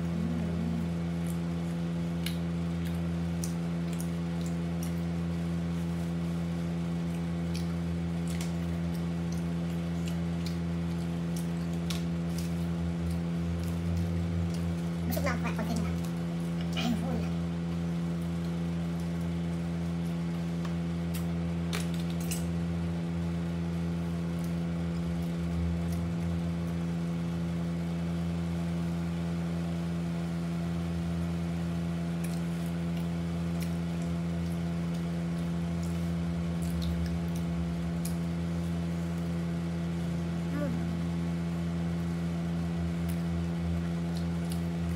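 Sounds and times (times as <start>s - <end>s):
mechanical hum: 0.0s - 44.9s.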